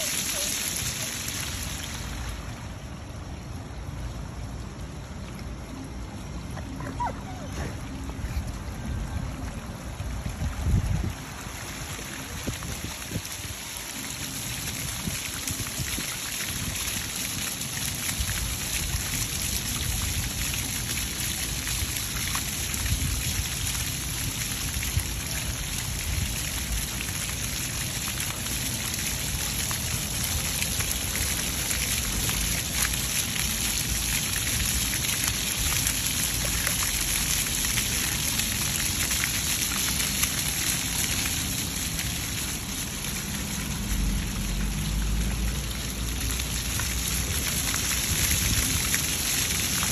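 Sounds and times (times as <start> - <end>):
fountain jets spraying: 0.0 - 49.9
water splashing on paving: 0.0 - 49.9.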